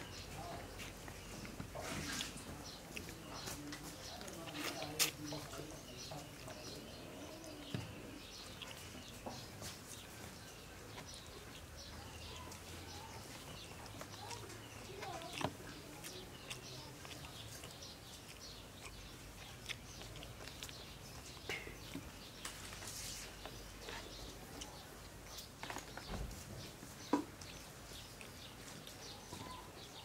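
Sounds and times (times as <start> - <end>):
small birds chirping: 0.0 - 30.0
man eating with fingers: 0.1 - 30.0.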